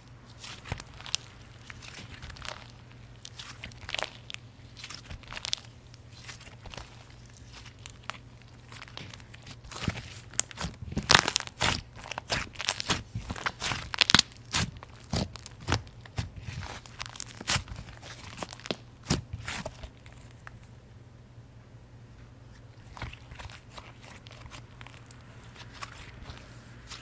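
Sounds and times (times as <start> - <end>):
slime crackling and popping: 0.3 - 20.6, 22.8 - 27.0.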